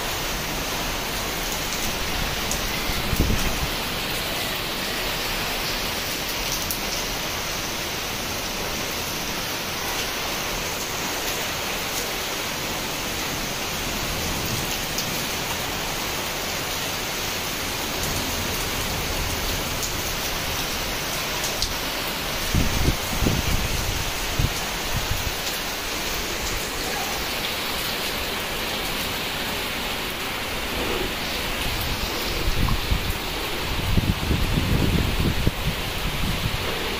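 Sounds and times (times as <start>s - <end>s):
heavy rain on rooftops: 0.0s - 36.9s.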